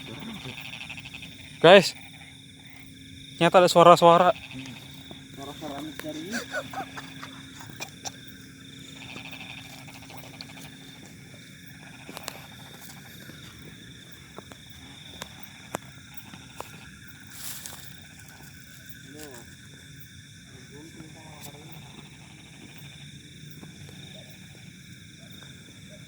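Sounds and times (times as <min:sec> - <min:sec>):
frogs calling: 0:00.0 - 0:26.0
high-pitched insect drone: 0:00.0 - 0:26.0.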